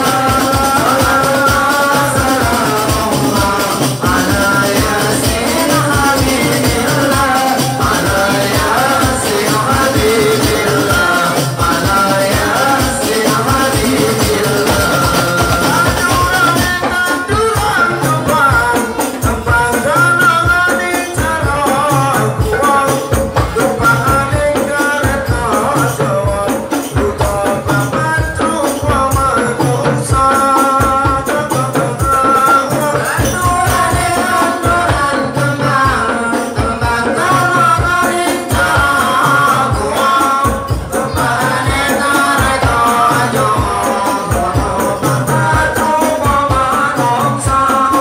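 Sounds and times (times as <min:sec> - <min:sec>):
hand drum beats: 0:00.0 - 0:48.0
jingling rattling percussion: 0:00.0 - 0:48.0
voices singing devotional melody: 0:00.0 - 0:48.0.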